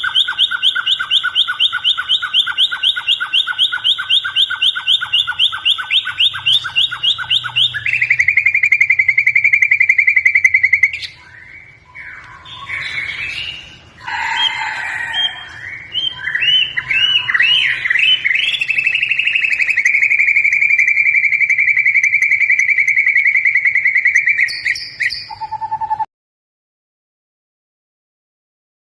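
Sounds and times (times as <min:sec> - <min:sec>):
bird singing trills and whistles: 0:00.0 - 0:26.1.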